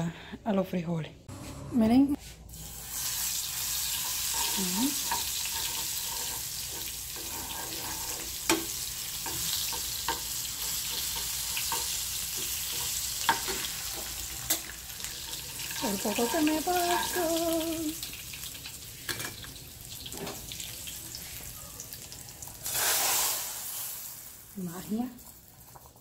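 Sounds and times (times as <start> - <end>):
garlic sizzling in a frying pan: 2.5 - 26.0.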